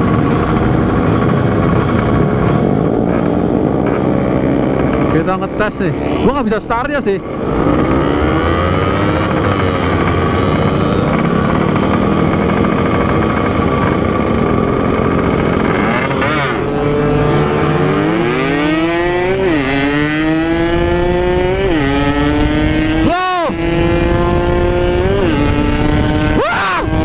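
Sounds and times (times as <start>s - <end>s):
two-stroke motorcycle engine revving: 0.0s - 27.0s.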